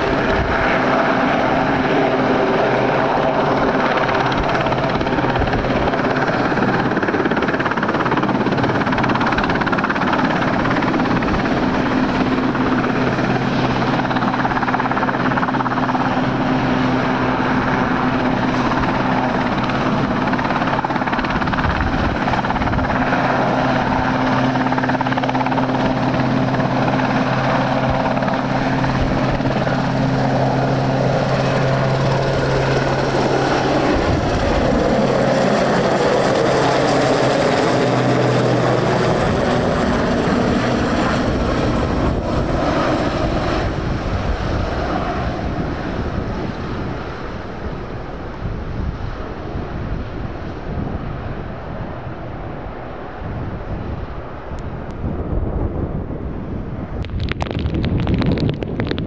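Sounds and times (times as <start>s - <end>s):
helicopter rotors and engines: 0.0s - 59.0s.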